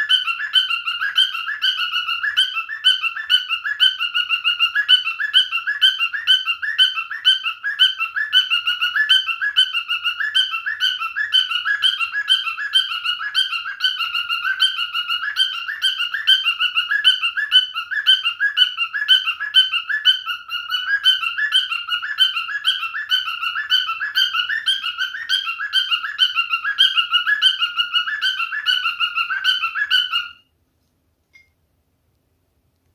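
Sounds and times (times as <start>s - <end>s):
cockatiel whistling and chirping: 0.0s - 30.5s.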